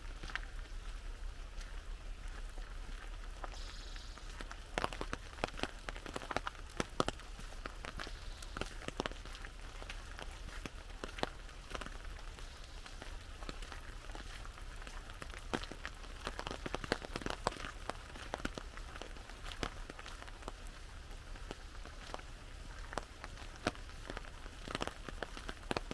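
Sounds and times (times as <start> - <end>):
raindrops tapping an umbrella: 0.0 - 25.9
rain hissing: 1.1 - 25.9.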